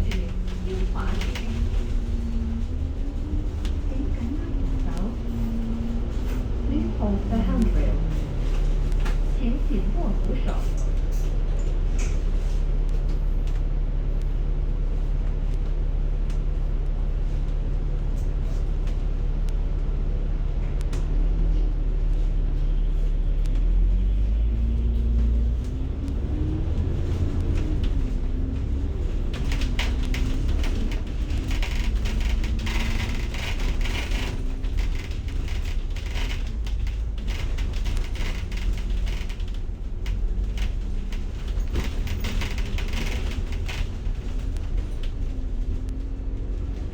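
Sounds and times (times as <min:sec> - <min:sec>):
bus engine rumble: 0:00.0 - 0:46.9
rattling and clicking in cabin: 0:00.0 - 0:46.9.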